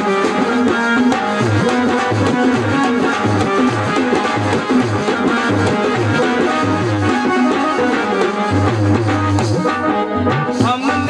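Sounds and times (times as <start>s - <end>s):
drum beat: 0.0s - 11.0s.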